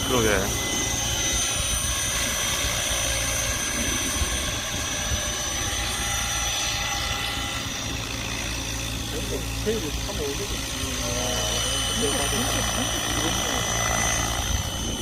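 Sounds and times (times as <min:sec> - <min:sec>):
helicopter motor whine: 0:00.0 - 0:15.0
rotor drone: 0:00.0 - 0:15.0.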